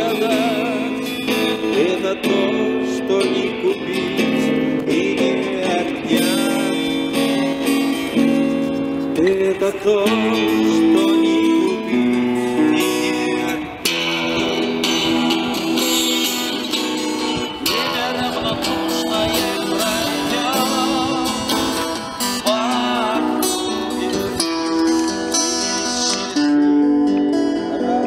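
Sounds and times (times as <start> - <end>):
acoustic guitar strummed: 0.0 - 28.0.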